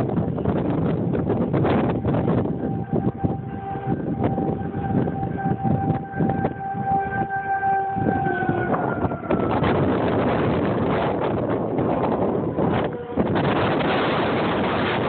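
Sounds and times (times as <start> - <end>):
distant siren: 0.0 - 15.0
wind noise on microphone: 0.0 - 15.0.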